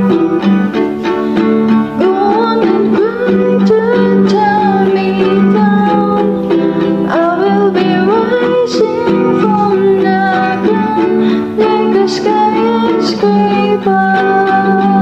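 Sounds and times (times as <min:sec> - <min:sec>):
guitalele strummed: 0:00.0 - 0:15.0
person singing: 0:00.0 - 0:15.0.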